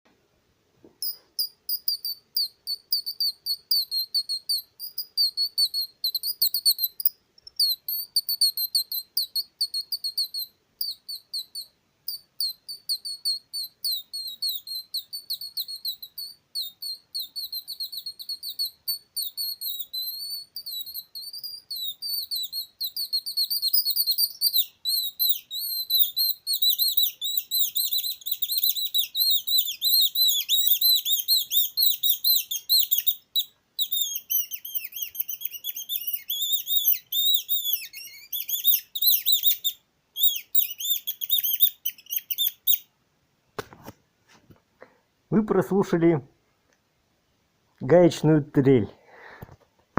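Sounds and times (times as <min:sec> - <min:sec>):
whistled bird-like trills: 0:01.0 - 0:42.9.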